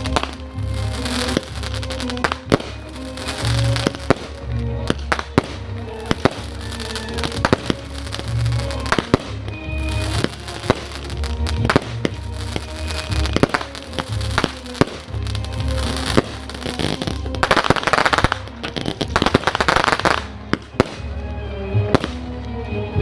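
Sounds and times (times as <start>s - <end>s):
fireworks bangs: 0.0s - 21.2s
fireworks crackling: 0.0s - 22.4s
music soundtrack: 0.0s - 23.0s.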